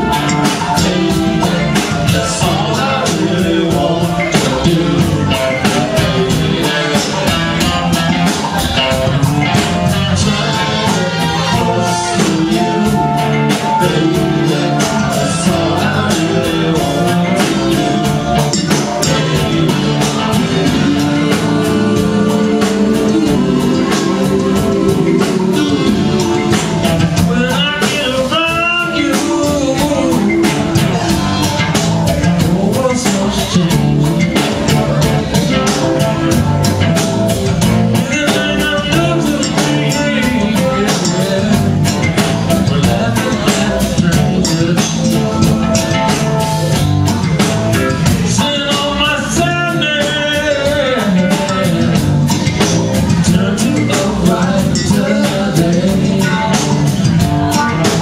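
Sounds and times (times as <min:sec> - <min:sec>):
live rock blues band: 0:00.0 - 0:58.0
man singing: 0:00.0 - 0:58.0.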